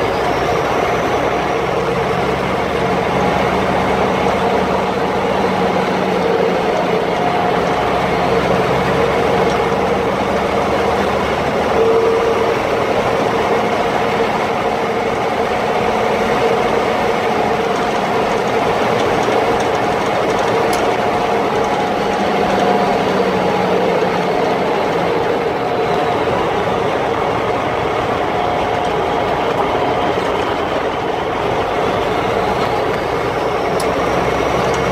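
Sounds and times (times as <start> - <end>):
truck engine droning: 0.0 - 34.9.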